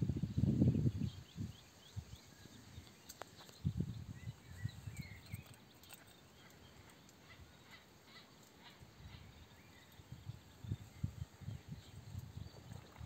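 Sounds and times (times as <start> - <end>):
faint bird chirps: 0.6 - 13.0.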